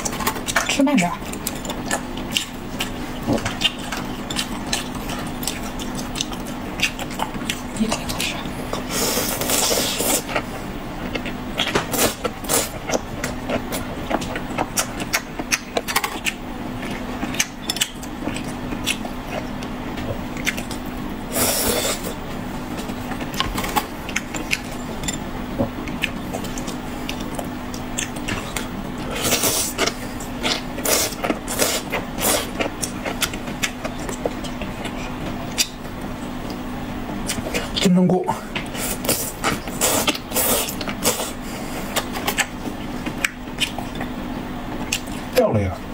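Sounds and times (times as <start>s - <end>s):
chewing and slurping: 0.0s - 37.9s, 38.5s - 45.3s.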